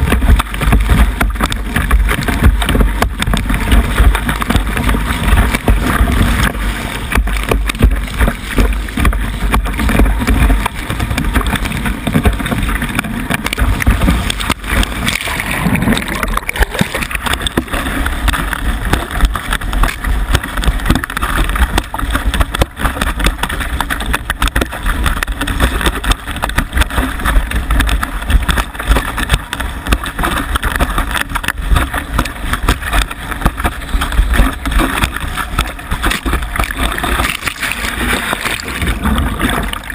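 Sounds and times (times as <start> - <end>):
water rushing and slapping: 0.0 - 39.9.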